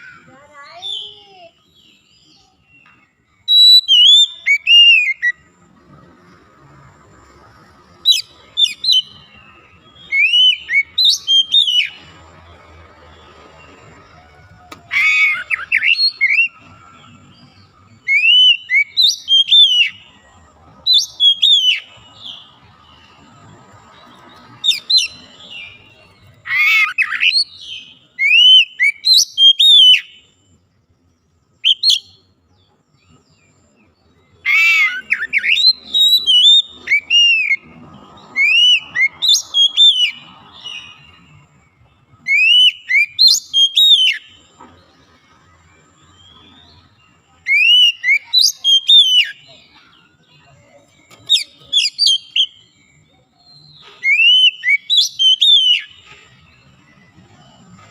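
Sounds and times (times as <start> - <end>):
bird singing whistled notes: 0.0 - 5.6, 7.6 - 57.9.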